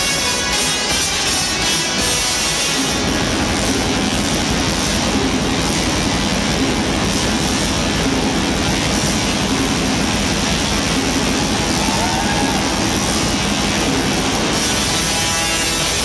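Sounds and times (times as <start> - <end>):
tesla coil electric buzz: 0.0 - 16.0.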